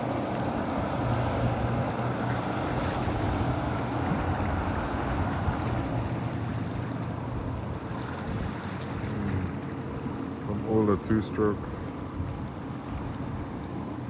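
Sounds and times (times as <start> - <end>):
outboard motors droning: 0.0 - 14.0
waves: 0.0 - 14.0
wind: 0.0 - 14.0.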